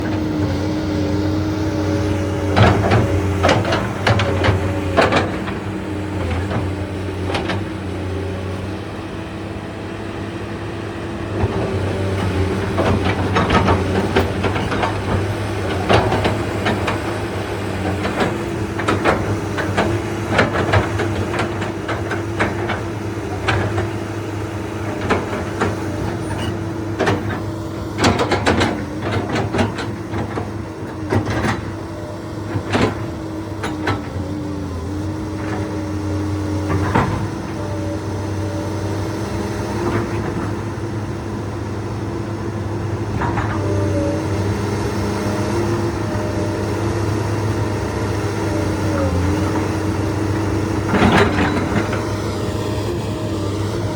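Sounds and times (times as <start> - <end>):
excavator engine running: 0.0 - 53.9.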